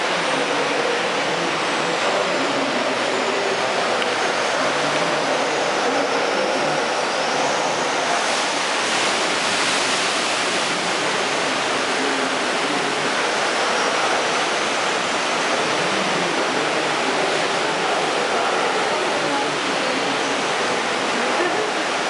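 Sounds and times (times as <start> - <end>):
surf washing over rocks: 0.0 - 22.0.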